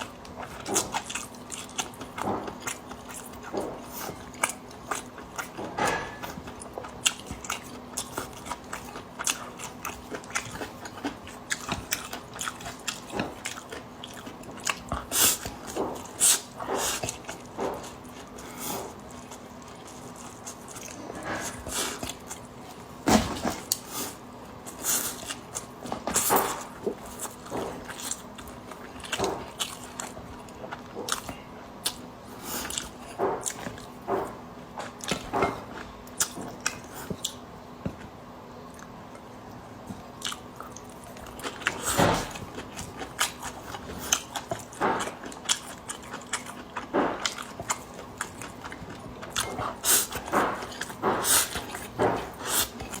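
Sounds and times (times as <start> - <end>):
wet chewing: 0.0 - 22.8, 24.6 - 32.0, 40.2 - 53.0.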